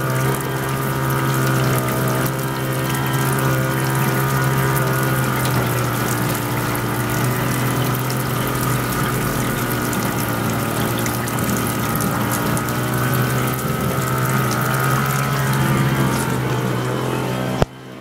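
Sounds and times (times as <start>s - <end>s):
car engine and road noise: 1.7s - 18.0s.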